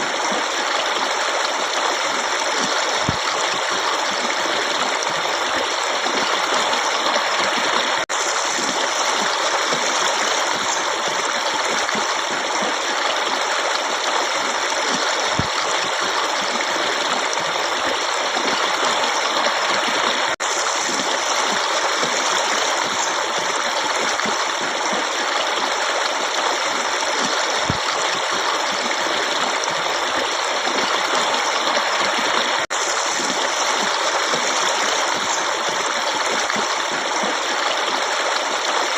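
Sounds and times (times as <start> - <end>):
stream flowing water: 0.0 - 38.9.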